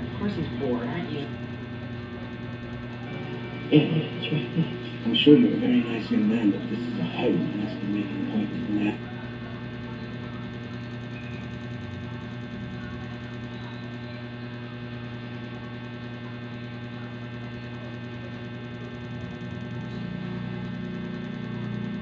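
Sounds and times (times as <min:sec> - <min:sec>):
electrical hum and buzz: 0:00.0 - 0:22.0.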